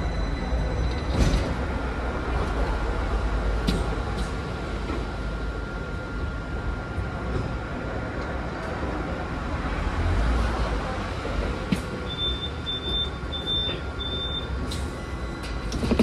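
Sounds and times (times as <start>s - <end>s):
tram running with low rumble: 0.0s - 16.0s.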